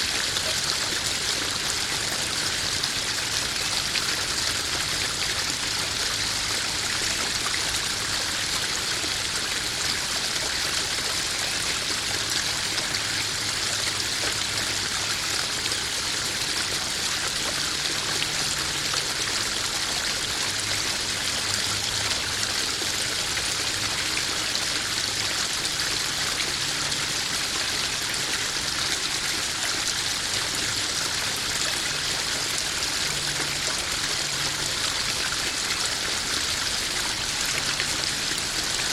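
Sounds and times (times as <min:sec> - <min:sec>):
waterfall splashing into pond: 0:00.0 - 0:38.9.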